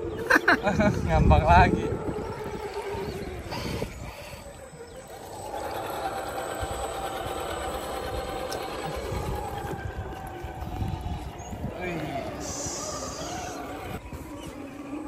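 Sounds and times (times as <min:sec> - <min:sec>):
toy truck motor whining: 0:01.2 - 0:15.0.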